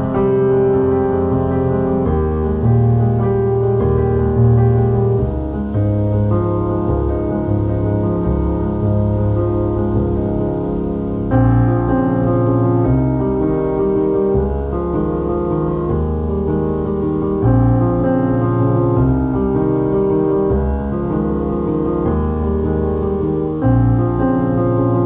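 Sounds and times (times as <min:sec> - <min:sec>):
piano music with held chords: 0:00.0 - 0:25.0.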